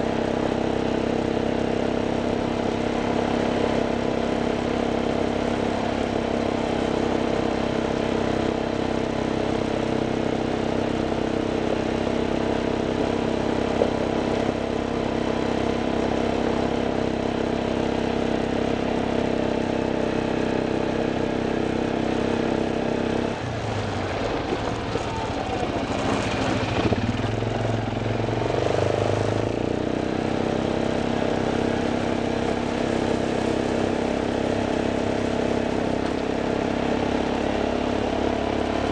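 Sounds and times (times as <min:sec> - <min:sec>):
vehicle engine running under load: 0:00.0 - 0:38.9.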